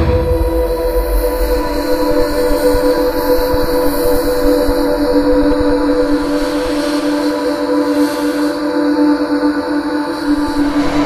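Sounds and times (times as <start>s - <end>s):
ambient drone of held tones: 0.0s - 11.0s.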